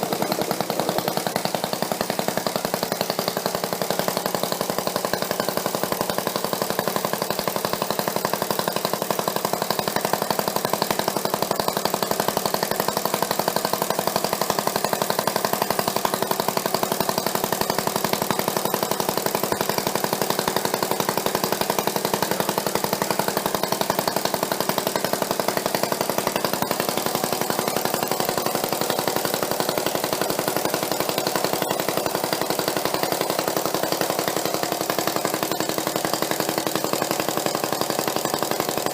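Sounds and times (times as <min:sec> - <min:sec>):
engine running with fast beat: 0:00.0 - 0:38.9.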